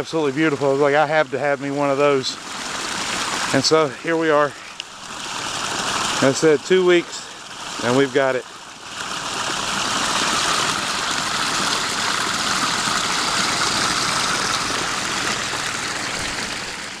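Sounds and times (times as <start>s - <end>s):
water pouring down waterfall: 0.0s - 17.0s.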